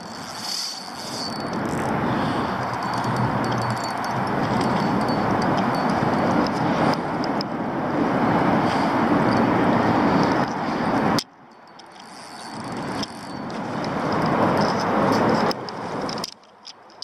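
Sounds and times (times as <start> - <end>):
road traffic rushing hum: 0.0 - 17.0.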